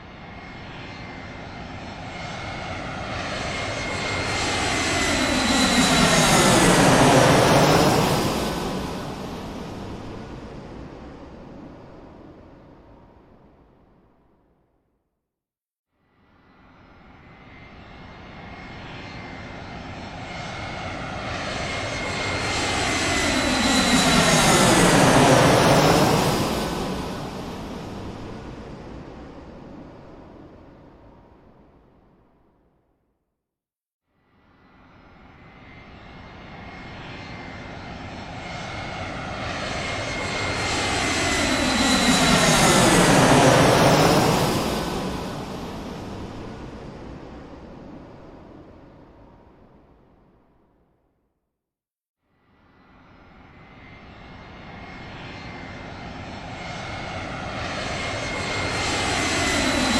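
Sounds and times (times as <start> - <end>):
airplane engine with high whine: 0.0 - 14.5, 16.2 - 32.6, 34.3 - 50.8, 52.4 - 59.9.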